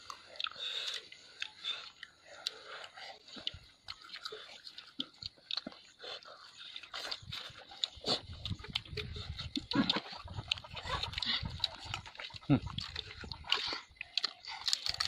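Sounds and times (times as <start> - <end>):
people chewing food: 0.0 - 15.0.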